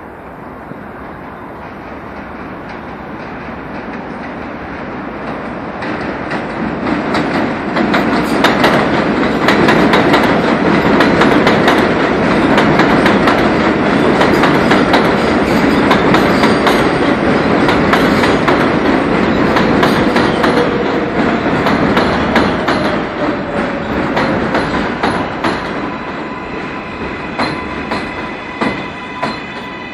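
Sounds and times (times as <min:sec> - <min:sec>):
train wheels rumbling on track: 0:00.0 - 0:29.9.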